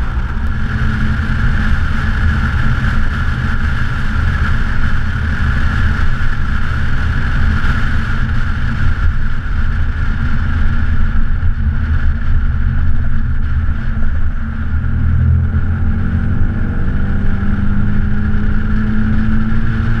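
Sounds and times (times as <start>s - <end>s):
car engine running: 0.0s - 20.0s
road and rushing air noise: 0.0s - 20.0s.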